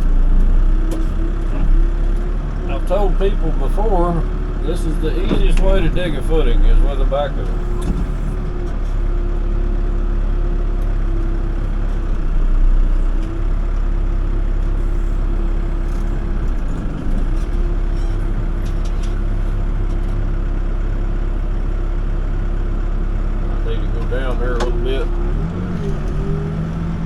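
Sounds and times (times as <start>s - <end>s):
backhoe diesel engine running: 0.0s - 27.0s.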